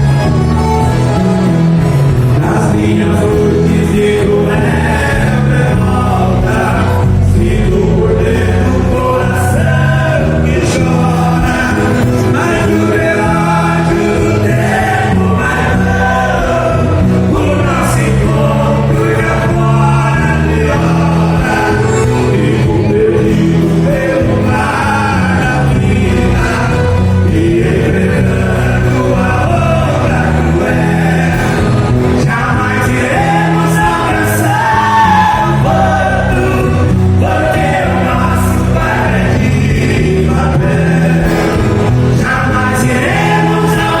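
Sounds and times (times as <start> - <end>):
band playing: 0.0 - 44.0
steady bass notes: 0.0 - 44.0
voices singing: 0.0 - 44.0.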